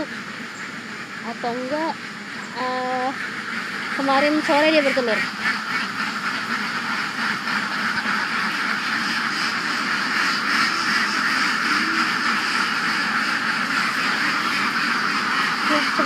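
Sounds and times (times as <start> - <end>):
flock of ducks quacking: 0.0 - 16.0.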